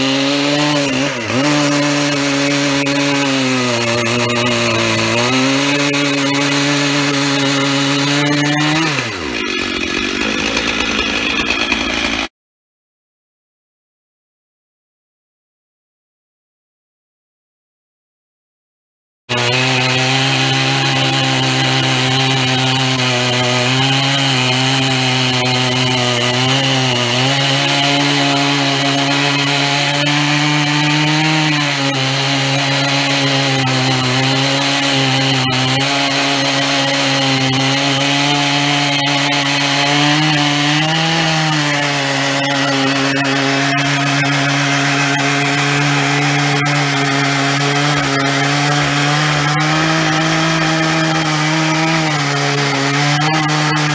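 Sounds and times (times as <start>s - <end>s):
chain cutting through log: 0.0s - 12.3s, 19.3s - 53.9s
chainsaw engine under load: 0.0s - 12.3s, 19.3s - 53.9s.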